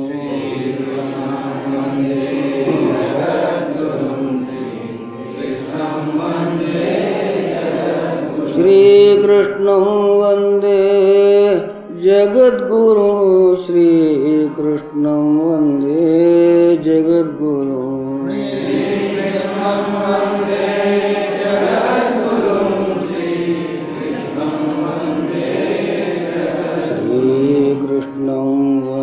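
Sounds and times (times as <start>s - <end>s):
voices chanting mantra: 0.0s - 29.0s.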